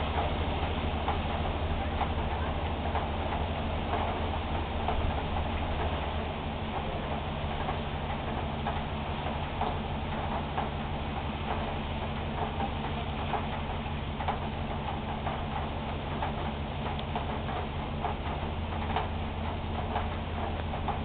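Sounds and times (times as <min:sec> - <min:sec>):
drips ticking on hard surface: 0:00.0 - 0:21.0
heavy rain falling: 0:00.0 - 0:21.0
low steady hum: 0:00.0 - 0:21.0.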